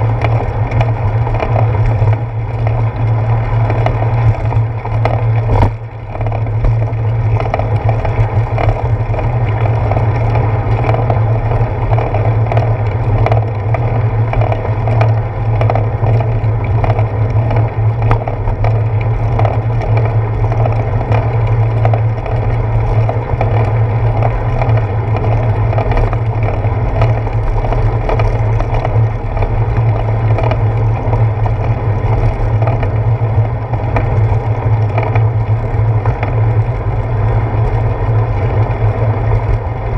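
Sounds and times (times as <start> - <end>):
bicycle road rumble: 0.0 - 39.9.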